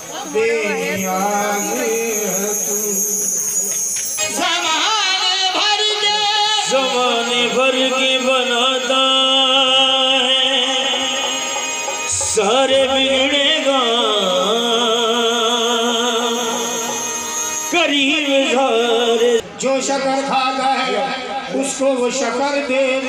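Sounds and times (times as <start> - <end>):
harmonium sustained notes: 0.0 - 23.0
man singing through pa: 0.1 - 23.0.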